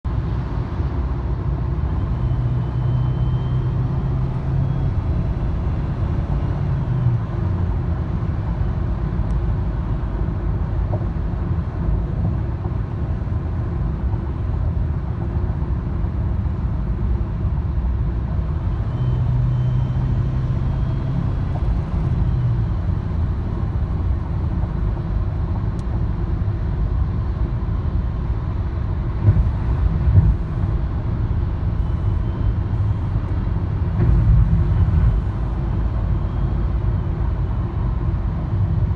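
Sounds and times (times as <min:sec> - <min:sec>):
car engine rumbling: 0:00.1 - 0:38.9.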